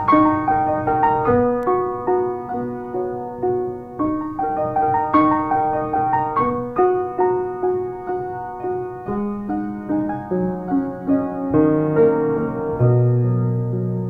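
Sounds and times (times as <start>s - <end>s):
slow gentle piano melody: 0.0s - 14.0s.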